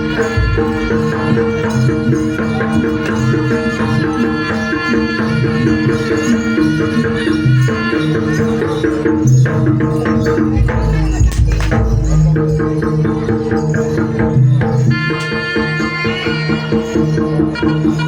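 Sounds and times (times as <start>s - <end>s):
hand drums: 0.0s - 18.0s
pitched percussion melody: 0.0s - 18.0s.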